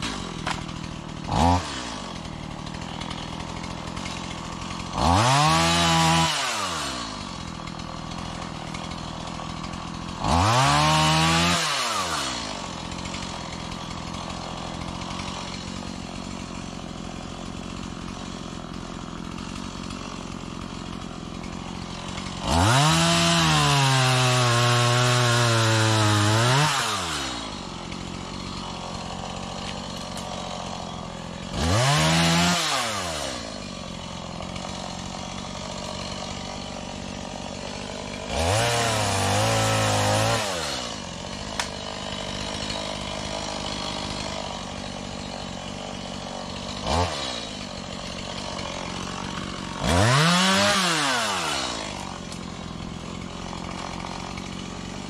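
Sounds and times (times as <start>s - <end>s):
chainsaw idling and revving: 0.0s - 55.0s.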